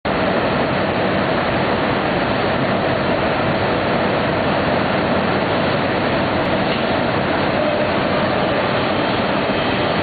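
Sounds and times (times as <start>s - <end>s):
machining center running: 0.1s - 10.0s.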